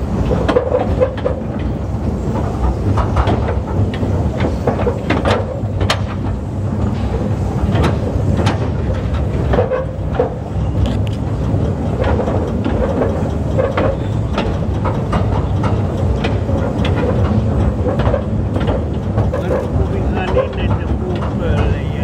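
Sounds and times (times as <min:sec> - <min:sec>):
train rumbling on track: 0:00.0 - 0:22.0
wheels clacking over rail joints: 0:00.0 - 0:22.0.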